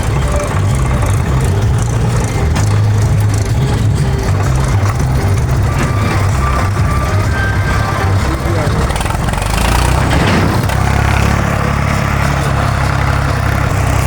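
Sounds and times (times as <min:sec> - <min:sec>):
tractor diesel engine rumbling: 0:00.0 - 0:14.0.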